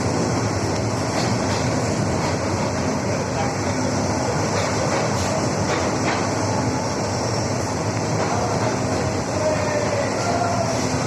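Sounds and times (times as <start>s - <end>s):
train running on track: 0.0s - 11.0s.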